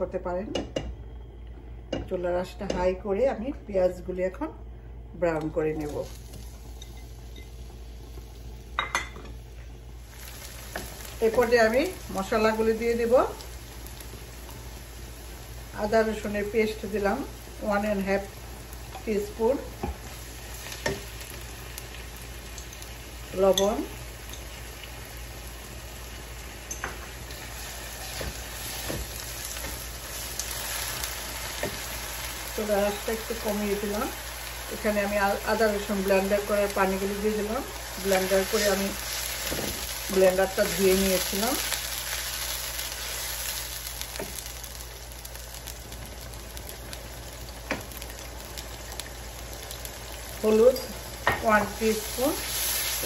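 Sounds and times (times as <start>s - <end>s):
food sizzling in hot oil: 5.7s - 53.0s.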